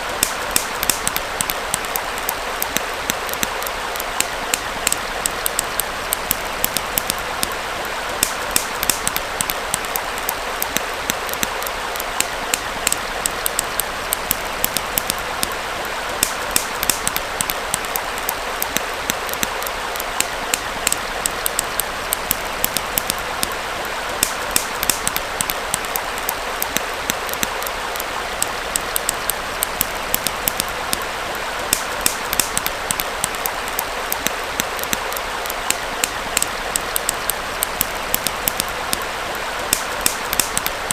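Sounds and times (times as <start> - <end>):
campfire crackling and popping: 0.0 - 40.9
small stream flowing: 0.0 - 40.9.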